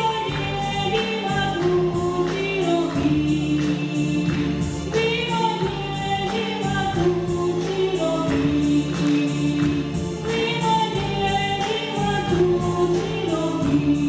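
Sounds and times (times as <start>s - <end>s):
instrumental backing music: 0.0s - 14.0s
woman singing into a microphone: 0.0s - 14.0s.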